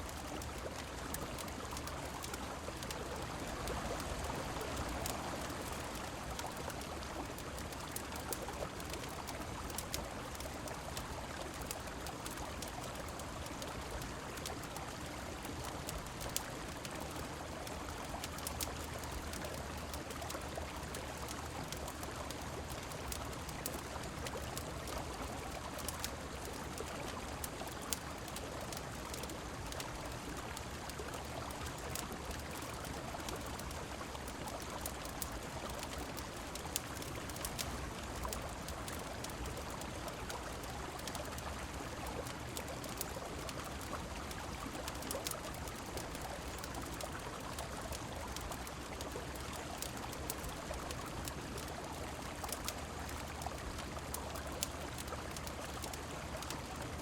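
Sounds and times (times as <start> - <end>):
rain falling: 0.0 - 57.0
fireplace crackling and popping: 0.1 - 57.0.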